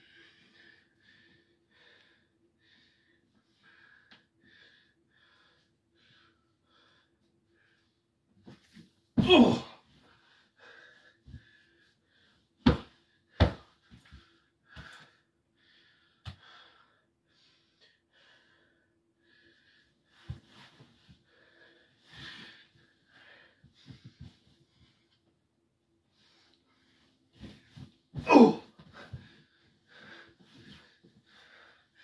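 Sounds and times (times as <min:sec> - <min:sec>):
person breathing hard: 0:00.0 - 0:08.0, 0:09.8 - 0:25.0, 0:26.1 - 0:32.0.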